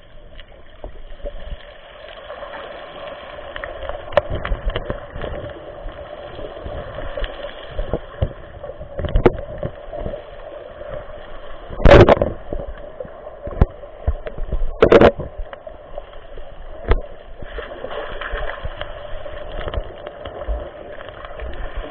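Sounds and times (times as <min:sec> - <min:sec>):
muffled underwater rush: 0:00.0 - 0:21.9.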